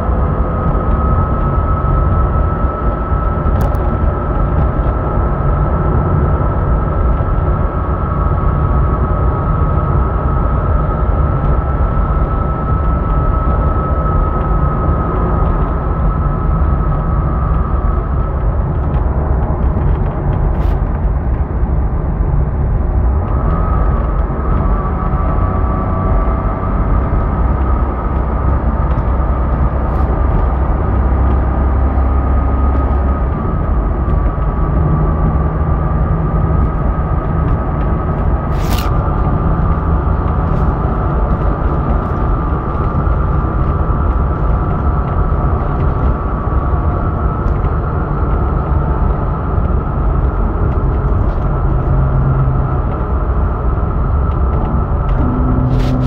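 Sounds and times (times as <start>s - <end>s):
vehicle engine low rumble: 0.0s - 56.0s.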